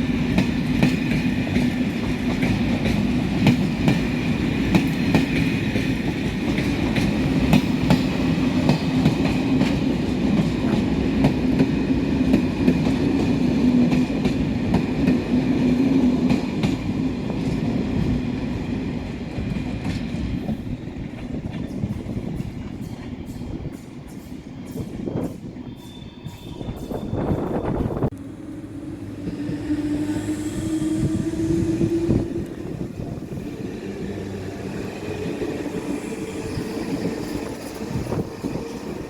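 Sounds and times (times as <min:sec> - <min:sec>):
train wheels rumbling: 0:00.0 - 0:39.0.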